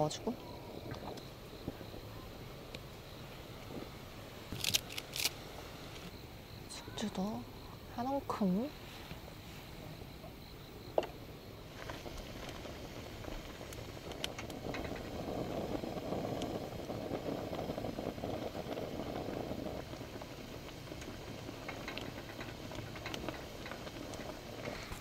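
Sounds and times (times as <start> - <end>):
broth bubbling in a pot: 0.0 - 4.6, 5.4 - 25.0.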